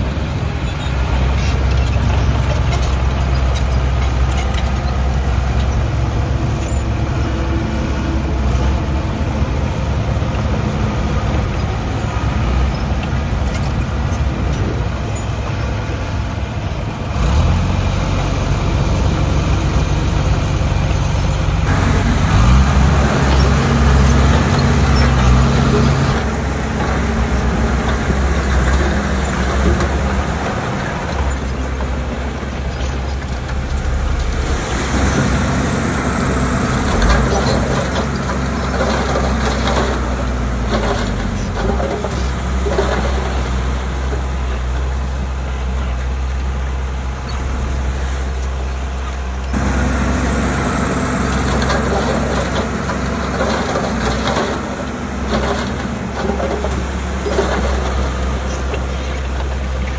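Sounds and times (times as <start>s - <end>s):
diesel engines running under load: 0.0s - 59.9s.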